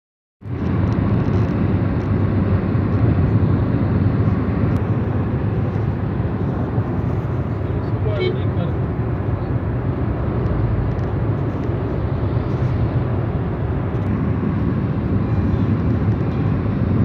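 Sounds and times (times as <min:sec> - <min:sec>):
car road and wind noise: 0:00.4 - 0:17.0.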